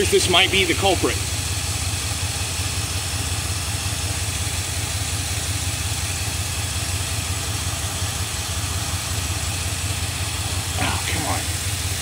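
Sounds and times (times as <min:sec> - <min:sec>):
truck engine idling with misfire: 0:00.0 - 0:12.0.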